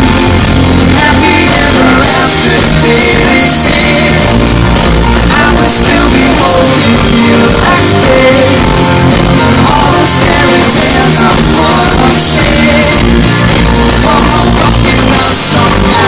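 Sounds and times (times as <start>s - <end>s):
lead vocalist singing: 0.0s - 16.0s
live pop-rock band: 0.0s - 16.0s.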